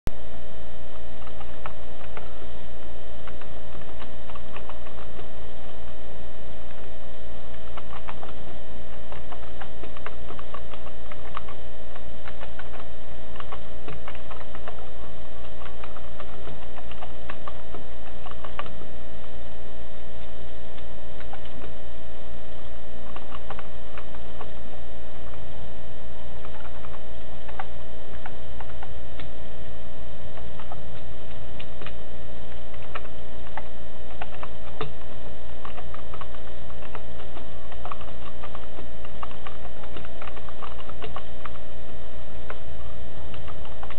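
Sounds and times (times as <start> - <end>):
steady hum: 0.1 - 43.9.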